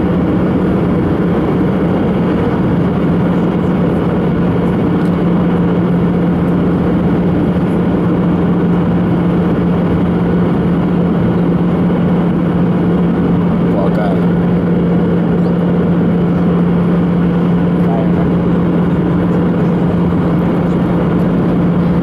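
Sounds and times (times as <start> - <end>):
constant low hum: 0.0 - 22.0
jet engines droning: 0.0 - 22.0.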